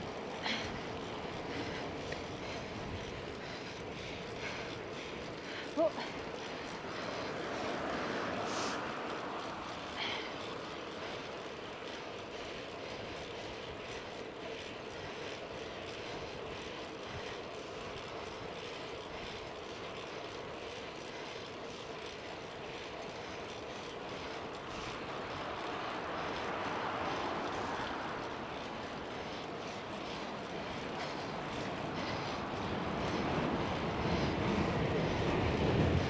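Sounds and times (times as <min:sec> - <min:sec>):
road noise: 0:00.0 - 0:36.0
wind rush while cycling: 0:00.0 - 0:36.0.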